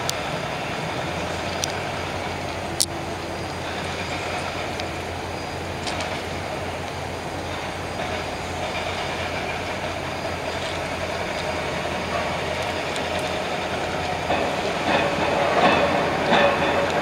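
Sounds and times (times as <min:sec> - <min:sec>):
rail clacks: 0:00.0 - 0:17.0
train rumbling: 0:00.0 - 0:17.0.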